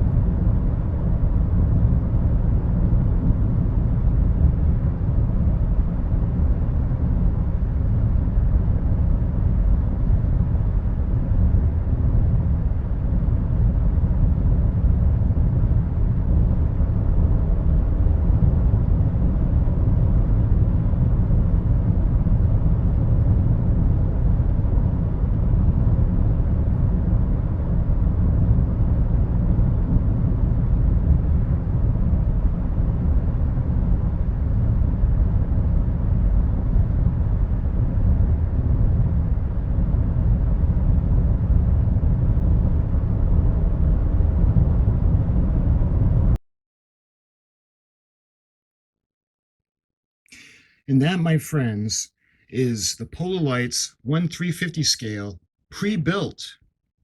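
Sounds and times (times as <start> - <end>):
deep rumbling engine drone: 0.0 - 46.4.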